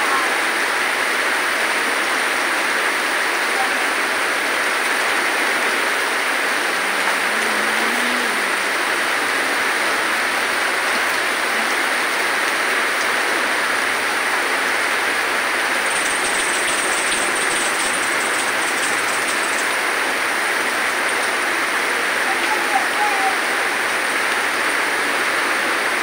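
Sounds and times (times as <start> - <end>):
heavy rain on pavement and cars: 0.0 - 26.0.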